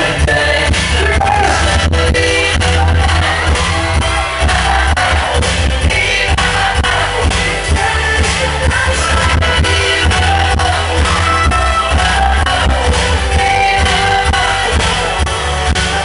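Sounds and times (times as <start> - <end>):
loud dance music with bass beat: 0.0 - 16.0
person singing: 0.0 - 16.0.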